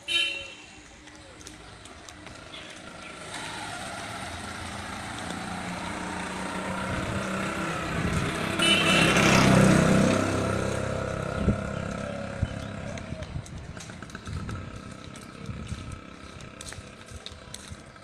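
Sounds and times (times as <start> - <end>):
vehicle engine passing by: 2.2 - 18.0.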